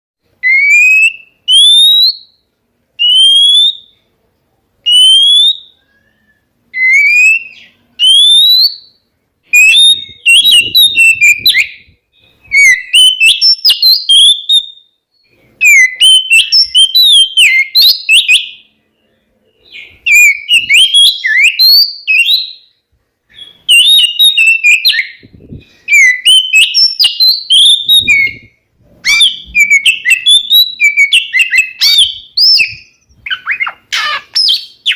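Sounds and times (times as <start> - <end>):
bird singing whistles: 0.4 - 2.4, 3.0 - 4.0, 4.9 - 34.9.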